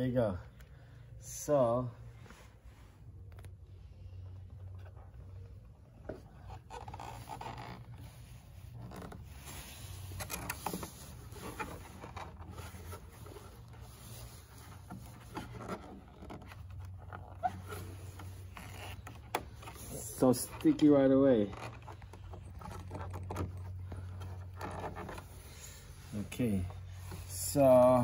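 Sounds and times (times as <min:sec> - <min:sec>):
steady low hum: 0:00.0 - 0:28.0
tape rustling and crinkling: 0:02.1 - 0:28.0.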